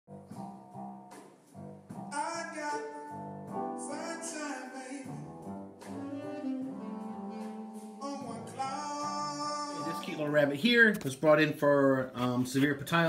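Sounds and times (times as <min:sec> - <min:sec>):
instrumental background music: 0:00.1 - 0:11.1.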